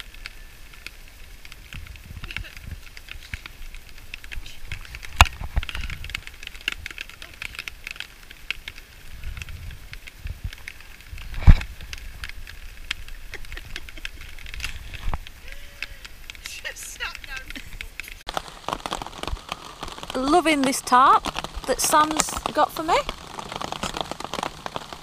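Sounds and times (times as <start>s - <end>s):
raindrops ticking on a tarpaulin: 0.0s - 25.0s.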